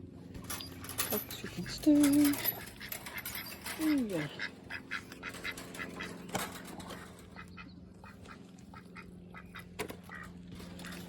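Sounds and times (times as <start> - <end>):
ducks quacking: 1.1 - 11.0.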